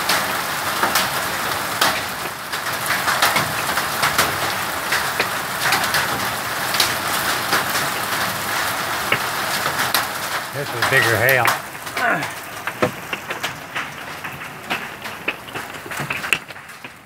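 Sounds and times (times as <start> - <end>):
hailstones hitting: 0.0 - 17.0
rain hissing: 0.0 - 17.0.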